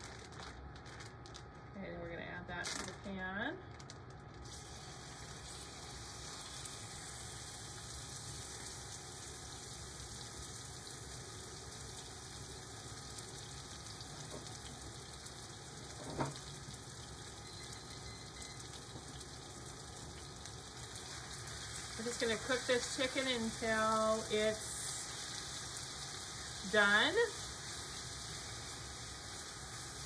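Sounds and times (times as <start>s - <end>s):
chicken sizzling in oil: 4.4s - 30.0s.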